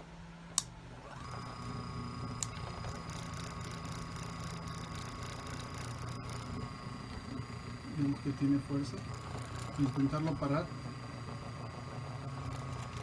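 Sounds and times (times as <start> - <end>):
electric fan motor whirring: 0.0 - 13.0.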